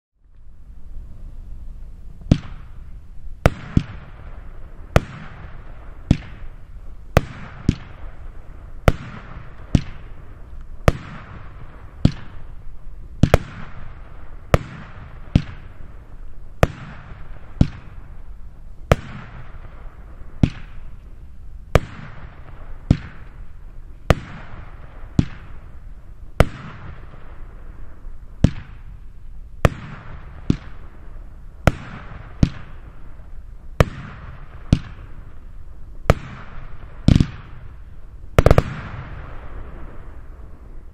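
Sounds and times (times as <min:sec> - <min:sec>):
firework bangs: 0:02.2 - 0:40.9.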